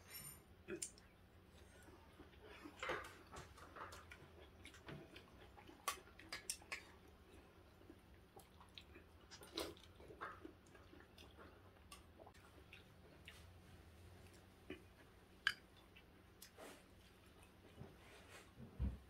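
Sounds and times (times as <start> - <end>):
chewing: 0.1 - 17.9.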